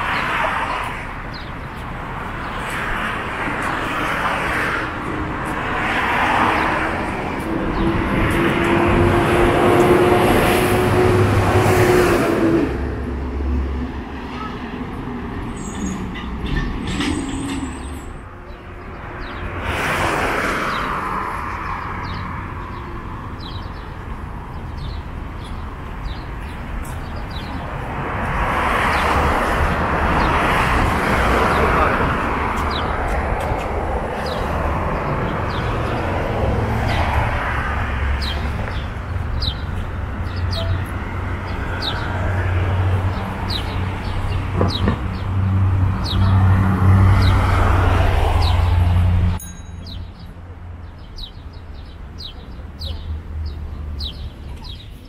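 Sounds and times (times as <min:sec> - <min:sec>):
cars passing: 0:00.0 - 0:55.0
low traffic rumble: 0:00.0 - 0:55.0.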